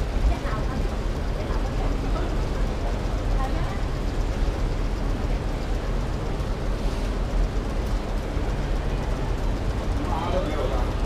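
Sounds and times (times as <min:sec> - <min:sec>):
low rumble of traffic: 0:00.0 - 0:11.0
street hubbub: 0:00.0 - 0:11.0.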